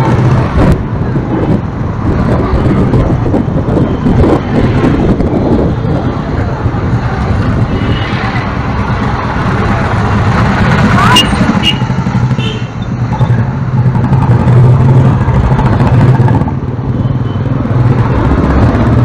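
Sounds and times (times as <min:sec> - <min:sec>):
motorbike engine hum: 0:00.0 - 0:19.0
passing motorbikes and cars: 0:00.0 - 0:19.0
wind noise on microphone: 0:00.0 - 0:19.0.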